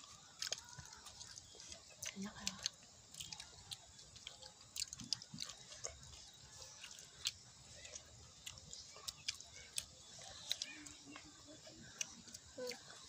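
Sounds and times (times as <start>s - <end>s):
children chewing food: 0.0s - 13.0s.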